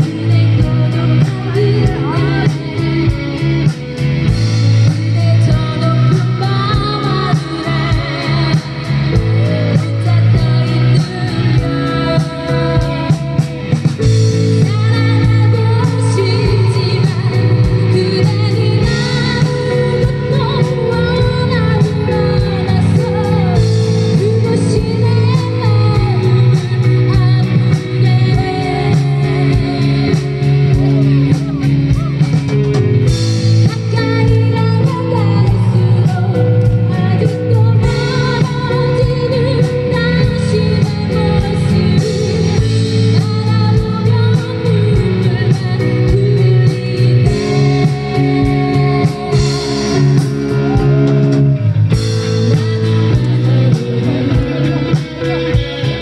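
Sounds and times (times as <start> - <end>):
live band playing: 0.0 - 56.0
woman singing: 0.0 - 56.0.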